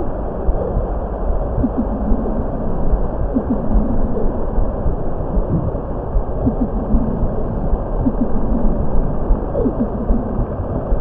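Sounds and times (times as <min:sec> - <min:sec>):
faint bubbling and gurgling: 0:00.0 - 0:11.0
low ambient rumble: 0:00.0 - 0:11.0.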